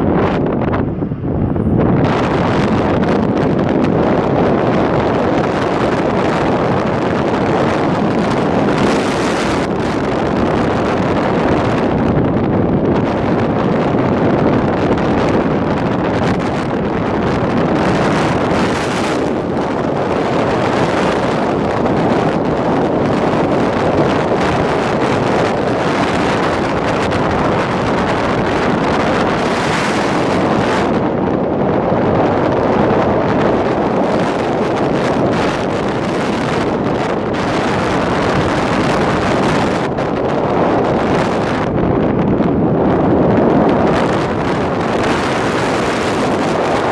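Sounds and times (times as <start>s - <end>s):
vehicle road and engine noise: 0.0s - 46.9s
wind rushing over microphone: 0.0s - 46.9s.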